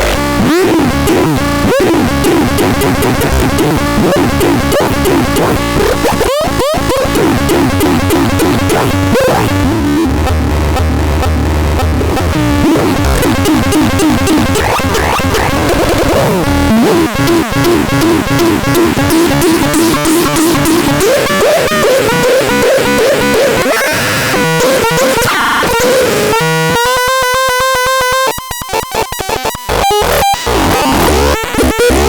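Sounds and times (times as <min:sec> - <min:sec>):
discordant sliding synthesizer tones: 0:00.4 - 0:26.6.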